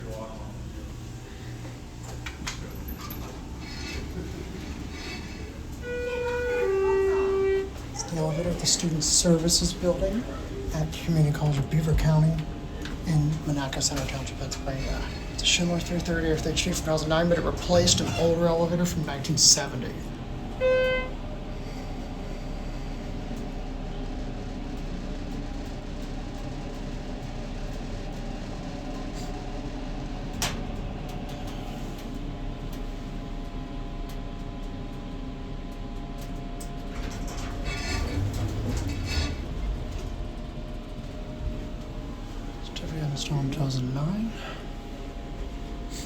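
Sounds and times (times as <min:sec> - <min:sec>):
elevator humming: 0:00.0 - 0:46.0
elevator rattling: 0:00.0 - 0:46.0.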